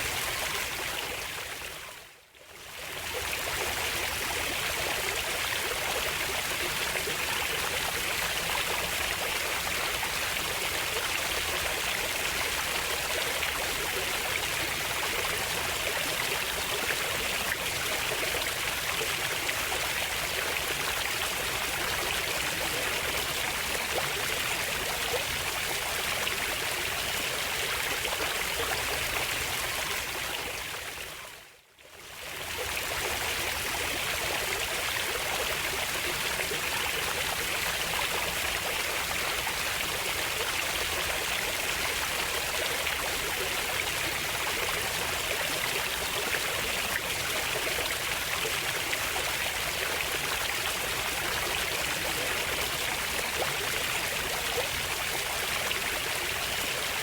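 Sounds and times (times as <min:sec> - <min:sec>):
flowing stream: 0:02.6 - 0:31.4, 0:32.0 - 0:57.0.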